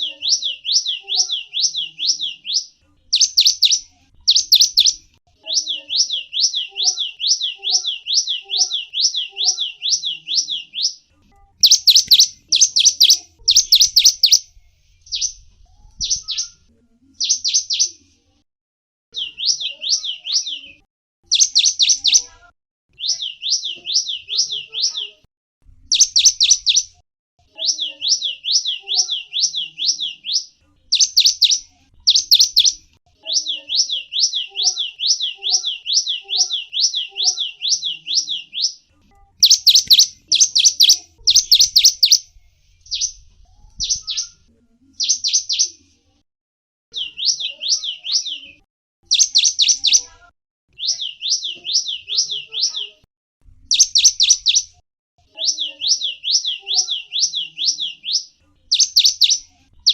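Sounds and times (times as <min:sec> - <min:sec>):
small bird singing high notes: 0:00.0 - 0:18.0, 0:19.1 - 0:22.3, 0:23.0 - 0:25.2, 0:25.9 - 0:27.0, 0:27.6 - 0:38.8, 0:39.4 - 0:43.2, 0:43.8 - 0:44.4, 0:45.0 - 0:45.8, 0:46.9 - 0:50.1, 0:50.7 - 0:53.0, 0:53.7 - 0:54.8, 0:55.4 - 0:59.9.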